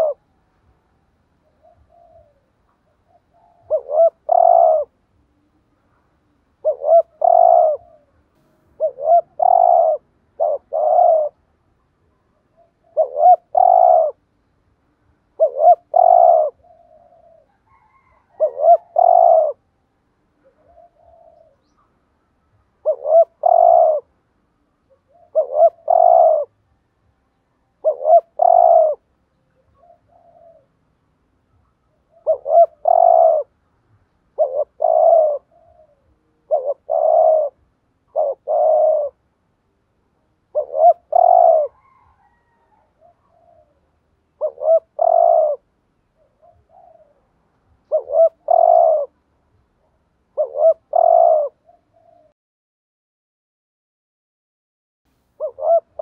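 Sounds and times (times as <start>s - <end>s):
dove cooing: 0.0s - 14.3s, 15.3s - 24.2s, 24.8s - 26.6s, 27.7s - 30.9s, 31.5s - 33.6s, 34.3s - 39.3s, 40.4s - 52.4s, 55.4s - 56.0s.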